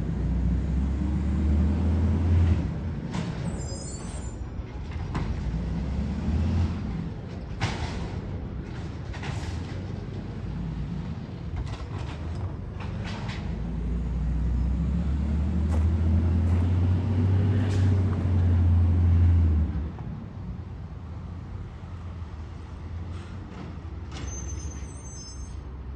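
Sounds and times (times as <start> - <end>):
garbage truck engine drone: 0.0 - 24.3.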